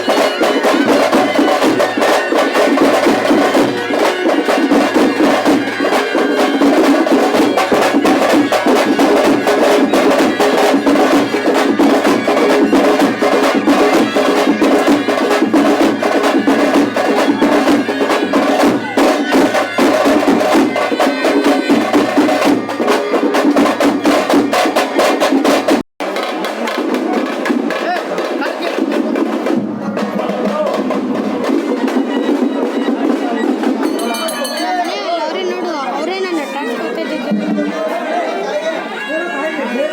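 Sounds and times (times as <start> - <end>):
percussion ensemble drumming: 0.0 - 38.8.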